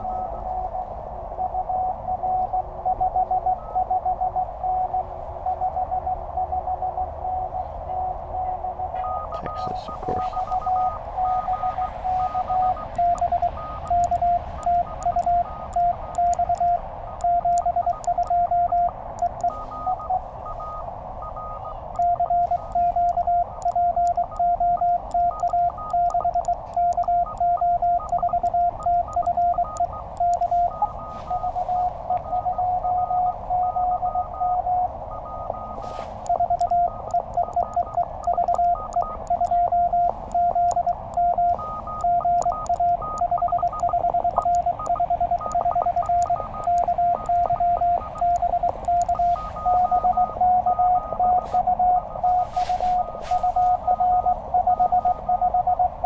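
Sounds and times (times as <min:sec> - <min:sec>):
morse code tone: 0:00.0 - 0:56.0
receiver hiss: 0:00.0 - 0:56.0
softer steady radio signal: 0:00.0 - 0:56.0.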